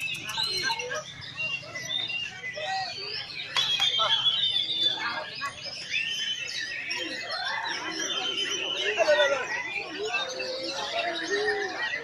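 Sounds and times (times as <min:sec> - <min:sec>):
crowd talking: 0:00.0 - 0:12.0
songbirds whistling and chirping: 0:00.0 - 0:12.0.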